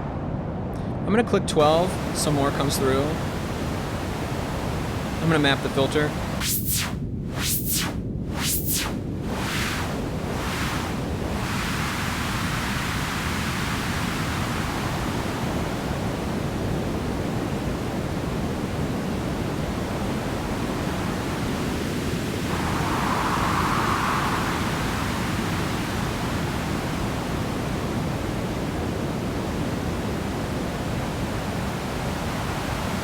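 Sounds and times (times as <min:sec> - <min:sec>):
synthesized white noise hiss: 0:01.6 - 0:28.7.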